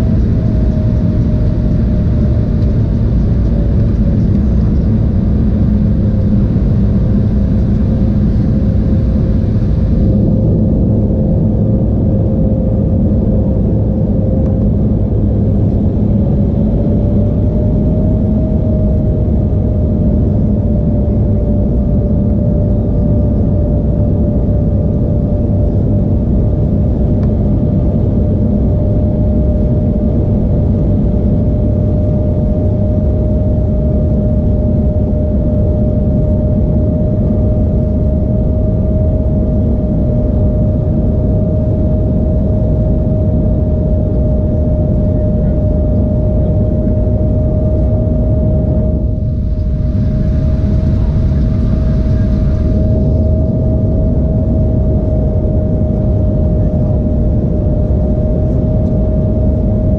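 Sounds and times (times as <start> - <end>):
aircraft cabin air rush: 0.0 - 59.9
jet engine rumble: 0.0 - 59.9.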